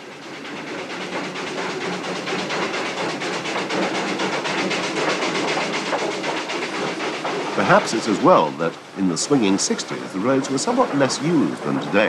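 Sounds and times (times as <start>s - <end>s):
steam engine exhaust beats: 0.0s - 12.0s
steam hissing: 0.0s - 12.0s.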